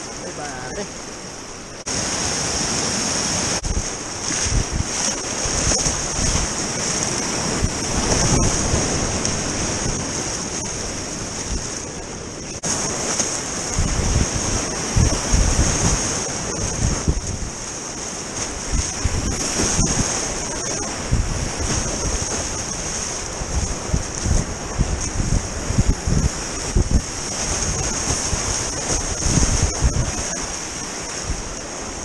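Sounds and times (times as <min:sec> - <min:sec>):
whitewater rapids rushing: 0:00.0 - 0:32.0
wind buffeting microphone: 0:00.0 - 0:32.0.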